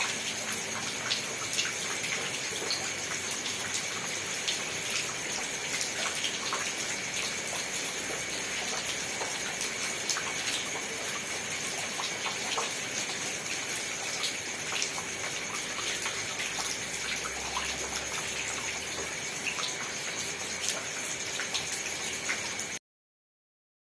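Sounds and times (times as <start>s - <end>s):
raindrops ticking: 0.0s - 22.7s
steady rain hiss: 0.0s - 22.8s.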